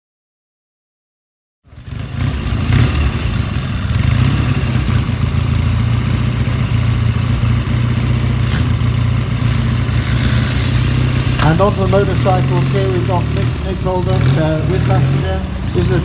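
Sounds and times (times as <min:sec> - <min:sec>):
motorcycle engine idling: 0:01.7 - 0:16.0.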